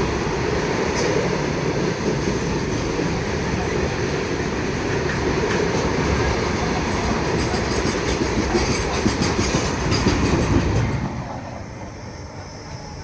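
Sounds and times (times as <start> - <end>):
train wagons rattling over rails: 0.0 - 13.0.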